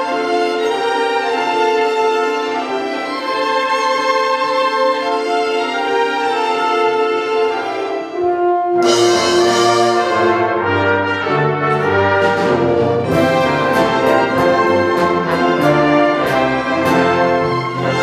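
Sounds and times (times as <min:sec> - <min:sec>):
brass: 0:00.0 - 0:18.0
orchestra playing: 0:00.0 - 0:18.0.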